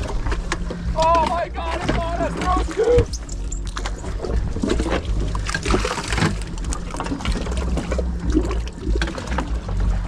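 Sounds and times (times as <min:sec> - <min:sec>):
steady low hum: 0:00.0 - 0:10.0
water splashing and trickling: 0:00.0 - 0:10.0.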